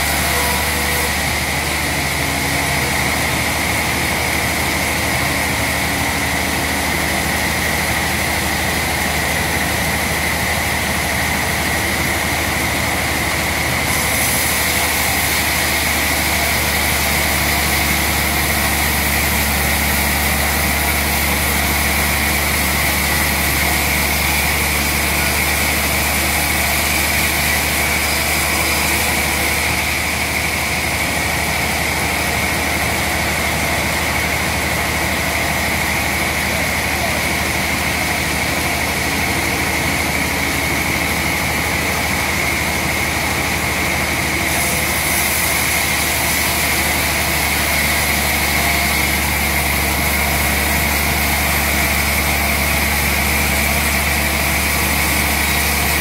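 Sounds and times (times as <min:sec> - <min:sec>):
band saw mill sawing log: 0:00.0 - 0:56.0.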